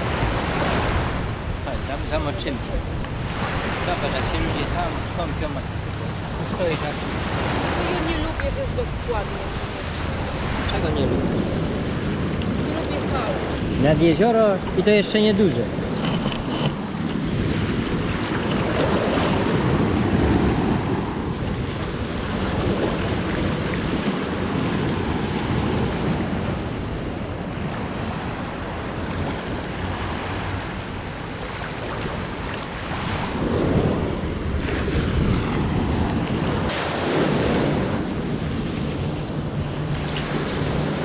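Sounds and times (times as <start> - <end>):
waves washing over pebbles: 0.0 - 41.0.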